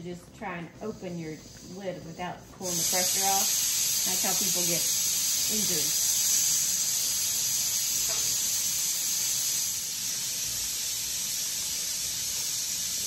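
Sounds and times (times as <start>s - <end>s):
steam hissing from vent pipe: 0.0s - 13.0s.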